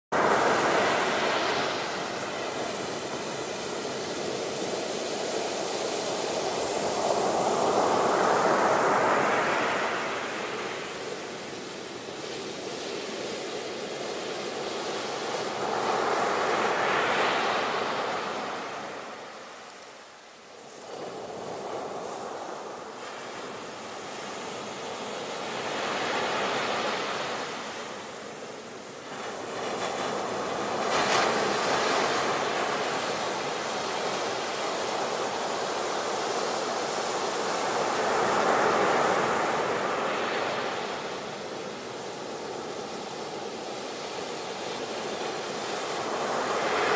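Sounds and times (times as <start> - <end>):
ocean waves breaking on shore: 0.2 - 46.9.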